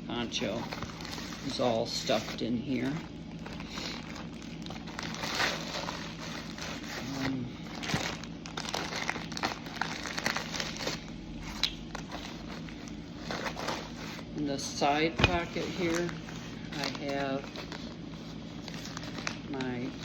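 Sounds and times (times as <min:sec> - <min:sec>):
gear crinkling and rustling: 0:00.2 - 0:20.0.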